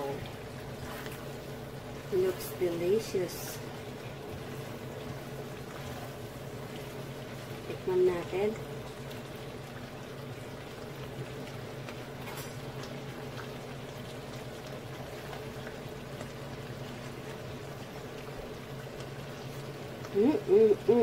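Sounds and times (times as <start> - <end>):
curry bubbling in a pan: 0.0 - 21.0.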